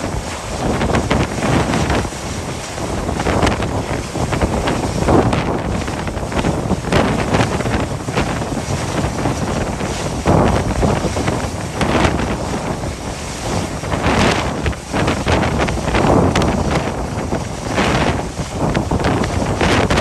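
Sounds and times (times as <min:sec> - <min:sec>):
rushing wind: 0:00.0 - 0:20.0
sea: 0:00.0 - 0:20.0
wind buffeting microphone: 0:00.0 - 0:20.0.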